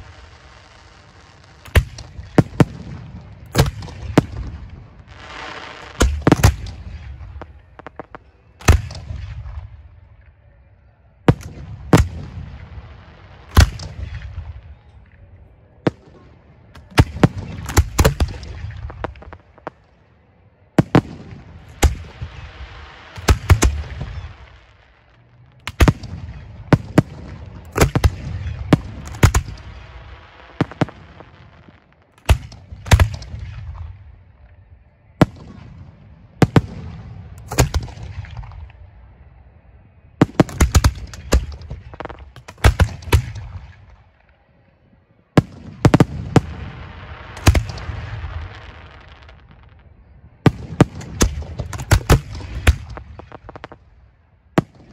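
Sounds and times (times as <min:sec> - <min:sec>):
fireworks bangs: 0:00.0 - 0:10.4, 0:11.2 - 0:20.0, 0:20.6 - 0:34.5, 0:35.2 - 0:39.5, 0:40.1 - 0:44.4, 0:45.3 - 0:54.9.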